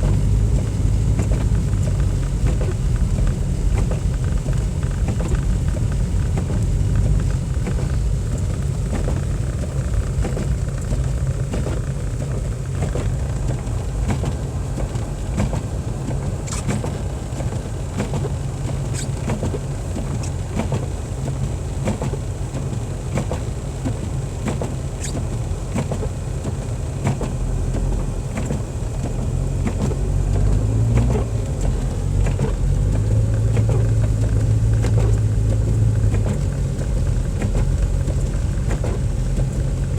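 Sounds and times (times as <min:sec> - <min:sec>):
engine and tyre rumble in car: 0:00.0 - 0:39.9.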